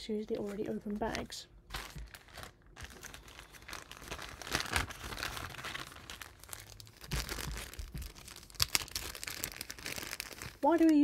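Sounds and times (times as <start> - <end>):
plastic bag crinkling: 0.3 - 11.0.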